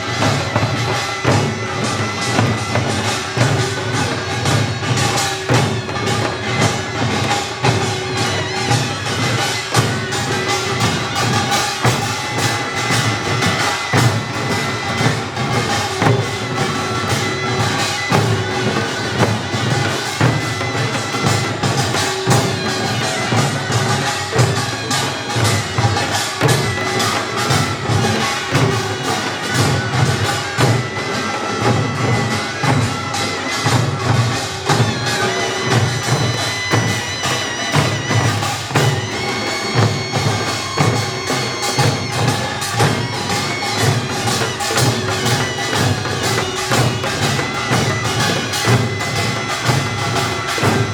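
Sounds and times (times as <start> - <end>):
drums and gongs beating: 0.0 - 50.9
reedy wind instrument: 0.0 - 50.9.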